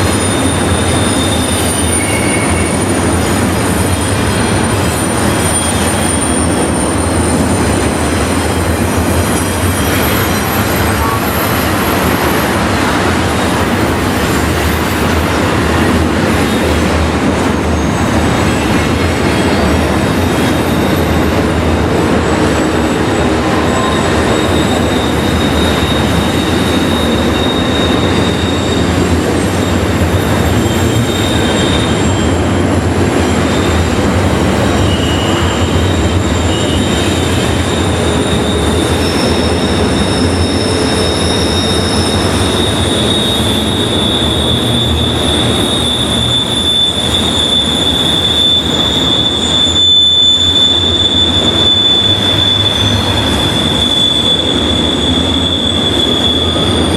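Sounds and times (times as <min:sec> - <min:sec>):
freight train cars rumbling: 0:00.0 - 0:56.9
steel wheels squealing: 0:00.0 - 0:56.9.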